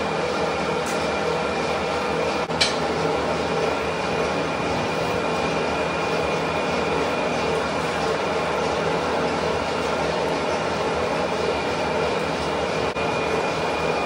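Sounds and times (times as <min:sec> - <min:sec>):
metal lathe humming and whining: 0:00.0 - 0:14.0.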